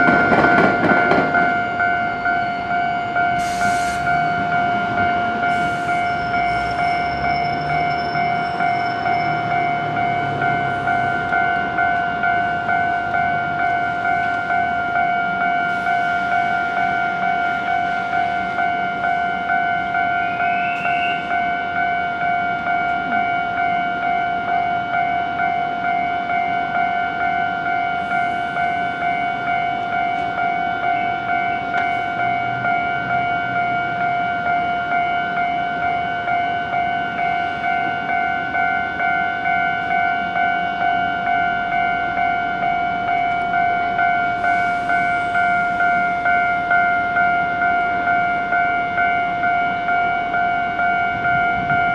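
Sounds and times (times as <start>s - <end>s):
level-crossing warning bell ringing: 0.0s - 51.9s.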